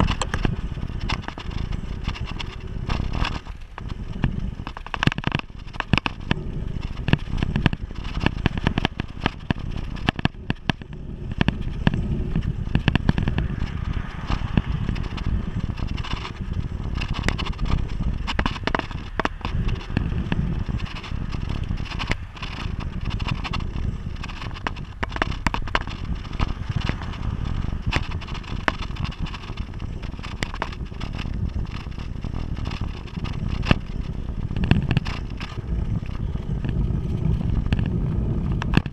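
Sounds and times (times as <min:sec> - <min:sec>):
bicycle tyres on asphalt: 0:00.0 - 0:38.9
camera and bike rattling: 0:00.0 - 0:38.9
wind on microphone: 0:00.0 - 0:38.9.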